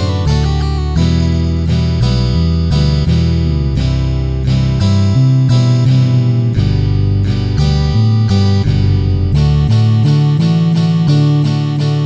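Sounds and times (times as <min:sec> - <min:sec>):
bass line: 0:00.0 - 0:12.0
guitars strumming chords: 0:00.0 - 0:12.0.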